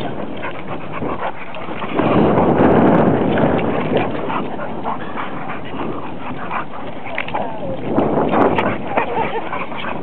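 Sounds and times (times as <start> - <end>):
dogs growling: 0.0 - 10.0.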